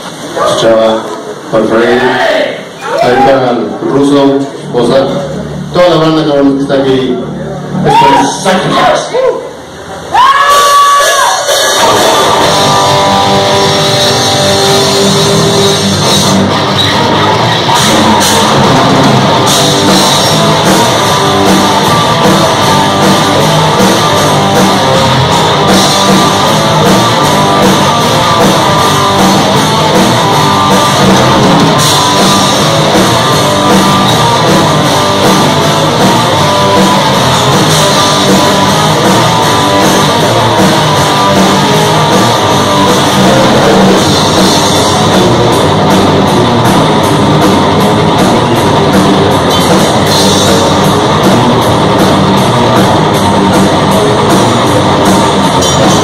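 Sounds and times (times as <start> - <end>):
distorted electric guitars: 0.0 - 56.0
electric bass: 0.0 - 56.0
drum kit: 10.1 - 56.0.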